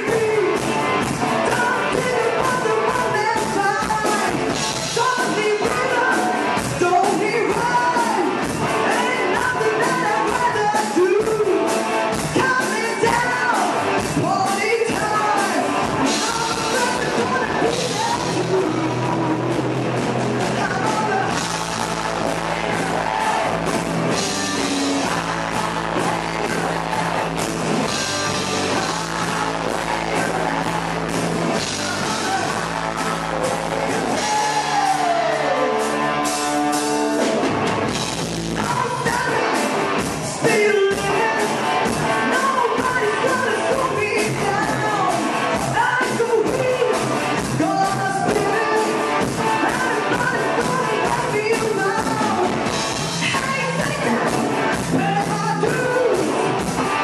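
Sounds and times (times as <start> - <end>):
person singing: 0.0 - 36.1, 38.4 - 57.0
live rock band playing: 0.0 - 57.0.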